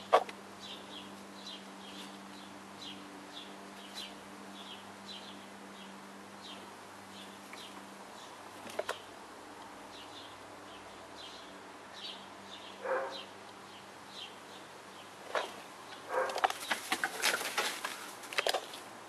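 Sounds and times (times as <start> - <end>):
bird chirping: 0.0 - 9.1, 9.9 - 16.8.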